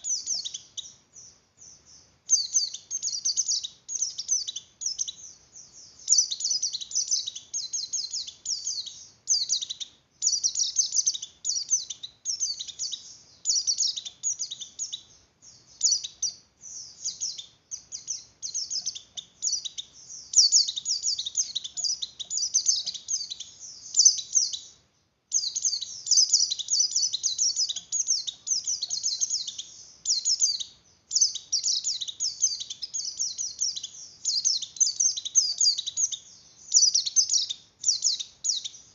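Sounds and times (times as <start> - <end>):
bird twittering chirps: 0.0 - 38.9.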